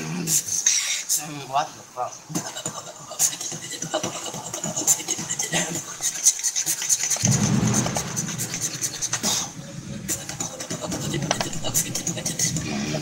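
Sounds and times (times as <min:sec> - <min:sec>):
beatboxing clicks and hisses: 0:00.0 - 0:01.2, 0:02.1 - 0:13.0
low buzzing beatbox bass: 0:02.3 - 0:13.0.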